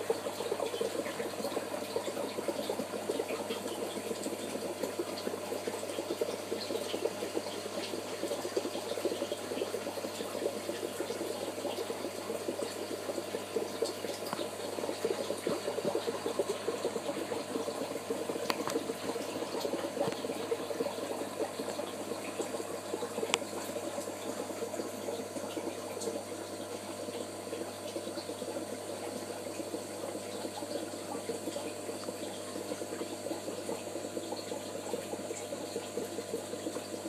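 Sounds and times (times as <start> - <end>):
aquarium filter churning water: 0.0 - 37.0
small ticks and bubbles: 0.0 - 37.0.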